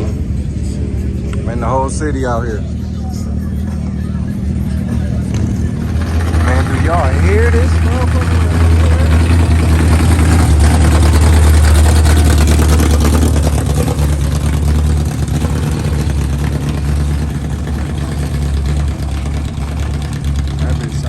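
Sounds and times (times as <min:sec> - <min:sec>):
loud car engine rumbling: 0:00.0 - 0:21.0.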